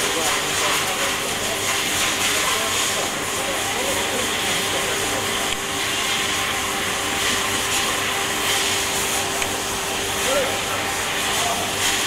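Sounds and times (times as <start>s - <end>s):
mid-pitched machinery hum: 0.0s - 12.0s.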